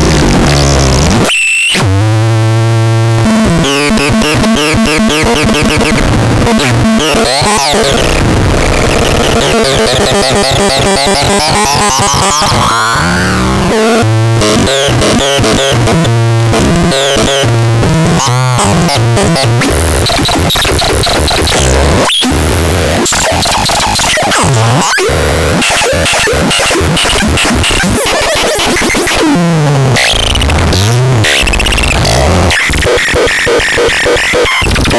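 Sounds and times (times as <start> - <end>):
harsh chaotic synth noise: 0.0 - 34.9.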